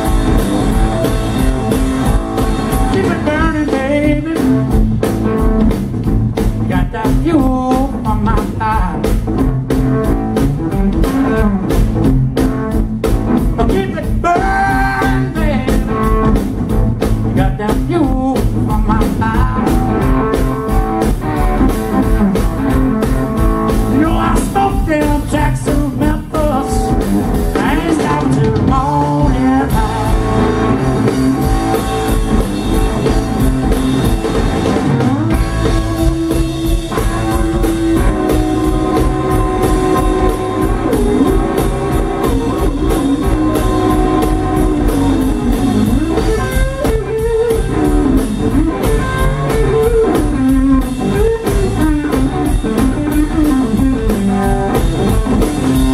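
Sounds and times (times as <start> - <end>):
electric guitar bending notes: 0.0 - 55.9
live blues band: 0.0 - 55.9.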